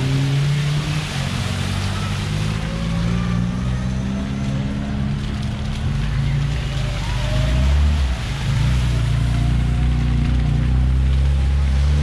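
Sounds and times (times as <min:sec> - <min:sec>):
tyres splashing water: 0:00.0 - 0:12.0.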